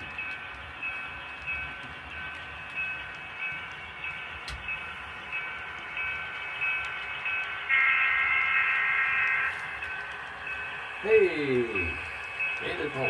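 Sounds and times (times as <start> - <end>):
diesel train sound effects: 0.0 - 13.0
ringing chime-like tones: 0.0 - 13.0.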